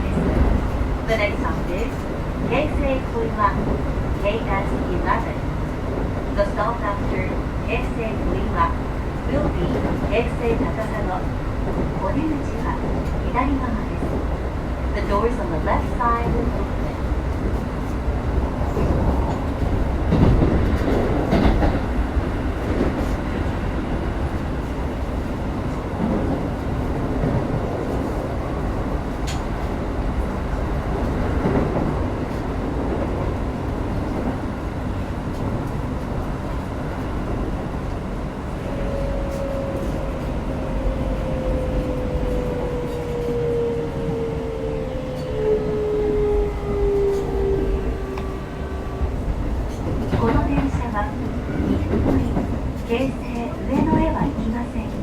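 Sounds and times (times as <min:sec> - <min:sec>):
train wheel and rail rumble: 0:00.0 - 0:55.0.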